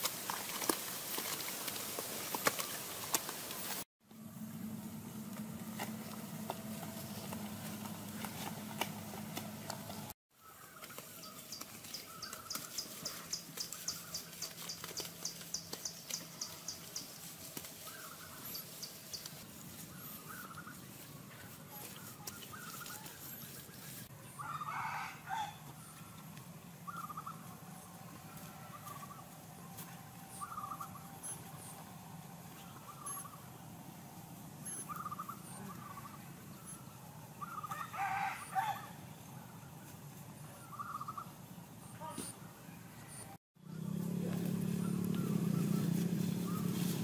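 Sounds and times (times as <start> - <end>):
birds chirping: 5.7 - 47.0.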